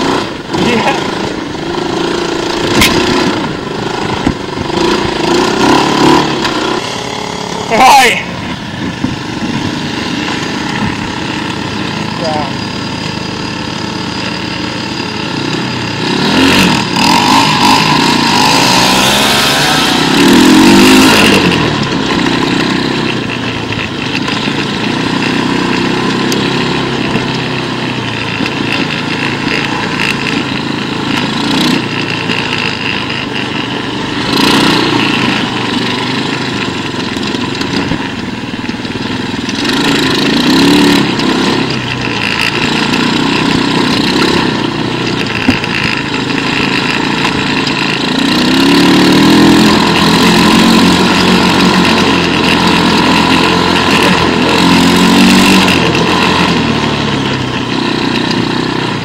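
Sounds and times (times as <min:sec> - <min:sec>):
quad bike engine revving: 0:00.0 - 0:59.0.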